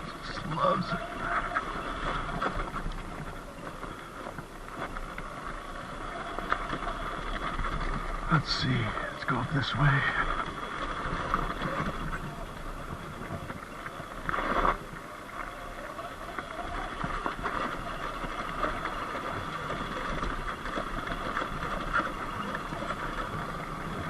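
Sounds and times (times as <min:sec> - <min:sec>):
electric dirt bike tyre noise: 0:00.0 - 0:24.0.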